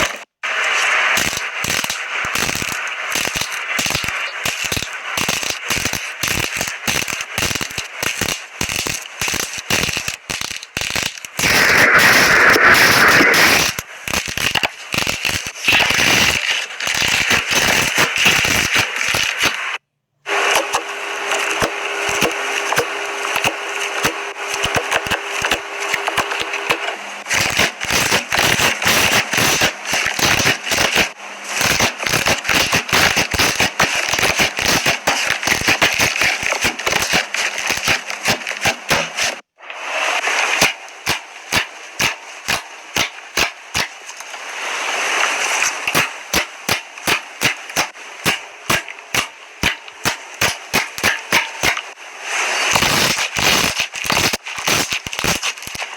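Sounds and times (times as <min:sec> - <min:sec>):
crackling air pocket pops: 0:00.0 - 0:19.8, 0:20.5 - 0:39.5, 0:40.2 - 0:44.4, 0:45.2 - 0:52.0, 0:52.7 - 0:55.9.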